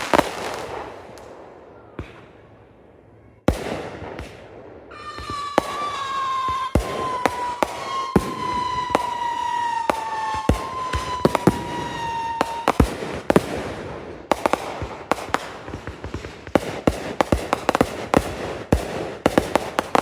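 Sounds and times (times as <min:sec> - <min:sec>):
fireworks bangs and crackling: 0:00.0 - 0:02.7, 0:03.3 - 0:20.0
high whistling firework: 0:03.6 - 0:20.0.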